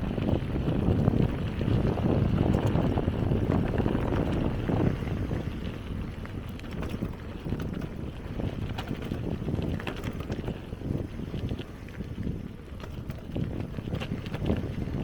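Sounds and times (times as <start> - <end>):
bicycle tyre crunching gravel: 0.0 - 15.0
wind buffeting microphone: 0.0 - 15.0
small rattling clicks: 2.2 - 10.8, 11.4 - 15.0.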